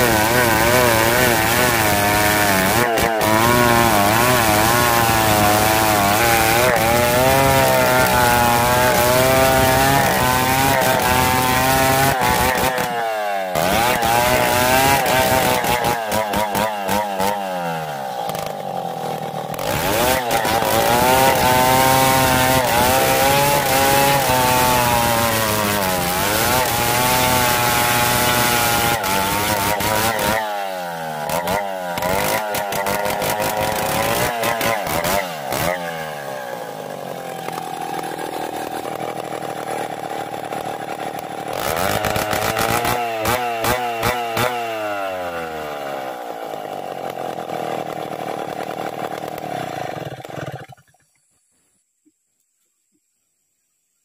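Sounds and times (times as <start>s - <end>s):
chainsaw cutting through log: 0.0s - 51.1s.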